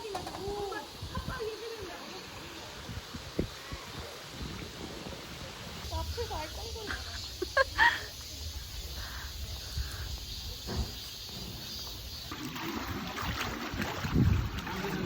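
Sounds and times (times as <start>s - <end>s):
stream water trickling: 0.1s - 15.0s.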